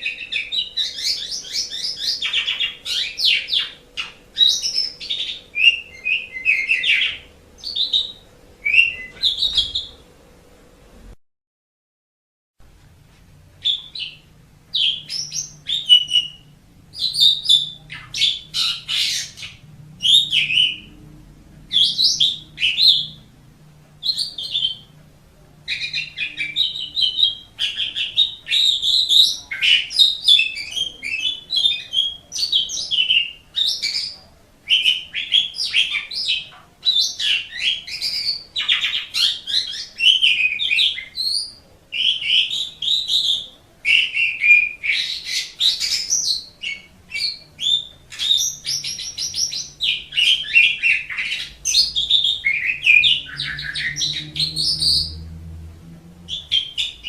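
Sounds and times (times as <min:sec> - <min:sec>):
starling singing: 0:00.0 - 0:10.1, 0:13.6 - 0:55.4, 0:56.3 - 0:57.0.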